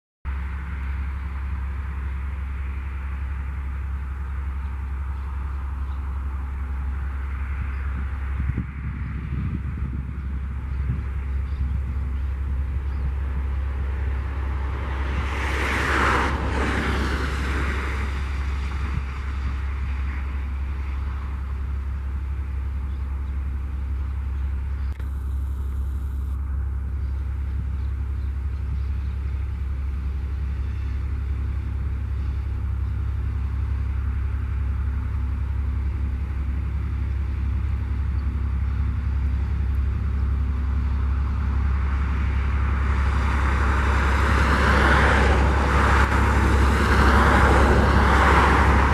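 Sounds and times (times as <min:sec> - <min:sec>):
diesel locomotive rumbling: 0:00.3 - 0:48.9.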